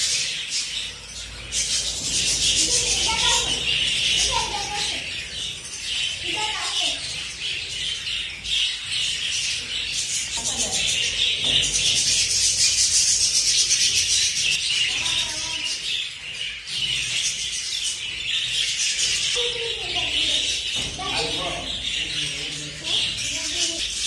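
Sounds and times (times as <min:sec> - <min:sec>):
budgies chirping and warbling: 0:00.0 - 0:24.0.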